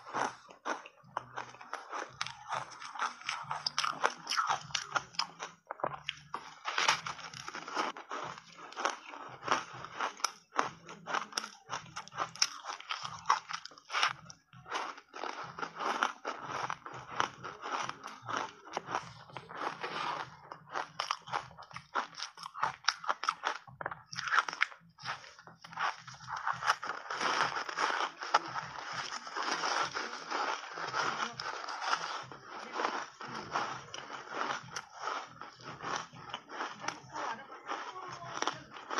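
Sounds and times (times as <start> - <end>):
crunching ice being chewed: 0.0 - 38.9.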